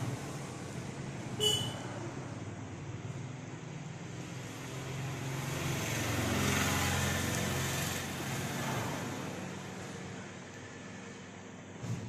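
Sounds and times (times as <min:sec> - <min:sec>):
passing vehicle engine hum: 0:01.8 - 0:11.7.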